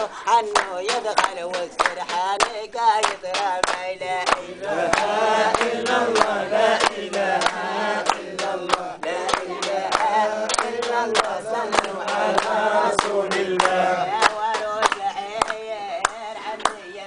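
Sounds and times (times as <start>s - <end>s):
men singing together: 0.0s - 17.0s
rhythmic hand clapping: 0.0s - 17.0s.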